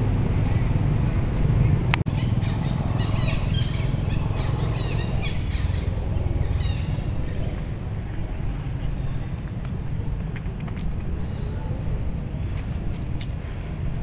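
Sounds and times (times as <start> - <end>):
wind rumble on microphone: 0.0 - 14.0
high bird chirps: 2.1 - 13.9.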